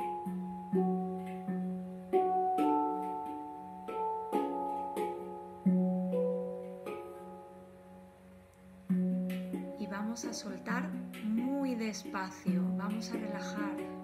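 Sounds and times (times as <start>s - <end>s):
handpan notes ringing: 0.0s - 14.0s.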